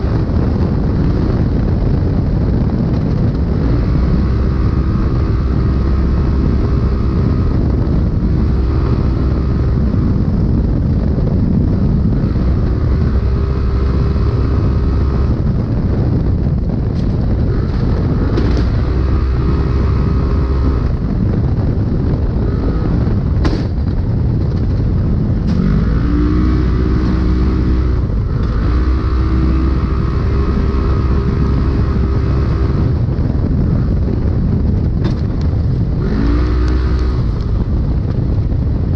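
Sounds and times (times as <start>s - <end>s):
rushing noise and rattle: 0.0s - 38.9s
vehicle engine running hard: 0.0s - 38.9s.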